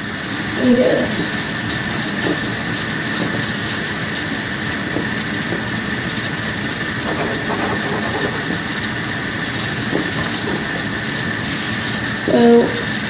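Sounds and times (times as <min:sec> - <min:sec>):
water boiling in a pan: 0:00.0 - 0:13.0.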